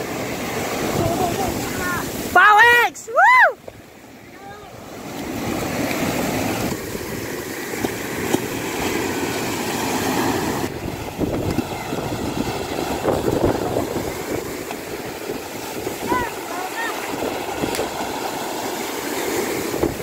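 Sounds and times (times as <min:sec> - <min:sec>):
wind buffeting microphone: 0:00.0 - 0:02.4, 0:03.7 - 0:20.0
small waves breaking on beach: 0:00.0 - 0:20.0.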